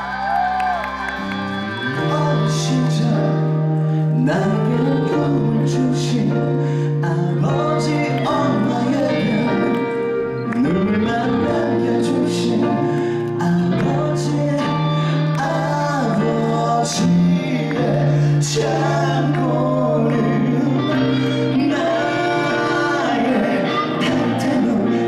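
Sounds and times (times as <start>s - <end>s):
men singing a duet: 1.9s - 25.0s.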